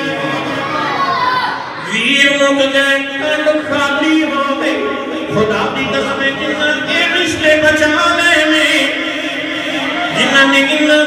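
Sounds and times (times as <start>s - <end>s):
man chanting: 1.8s - 11.0s.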